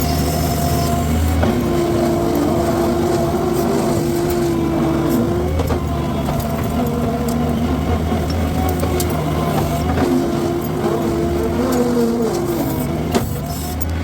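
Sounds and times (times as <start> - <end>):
brush cutter whine: 0.0 - 14.0
engine running: 0.0 - 14.0.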